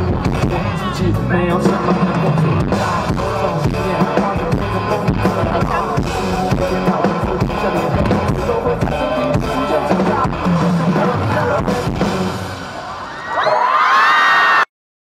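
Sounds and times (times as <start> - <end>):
live band playing: 0.0 - 13.2.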